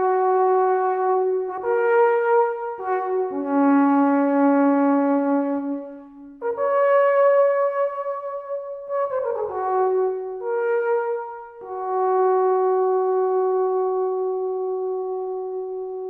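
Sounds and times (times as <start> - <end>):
brass instruments playing: 0.0 - 16.0.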